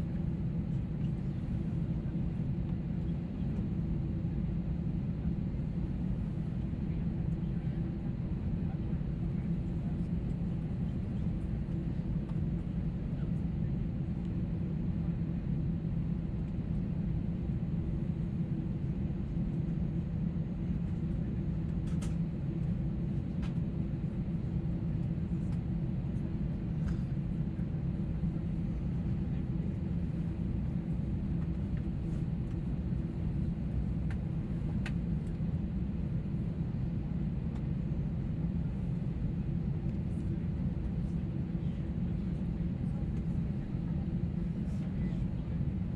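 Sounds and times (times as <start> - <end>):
airliner engine rumble in cabin: 0.0 - 45.9.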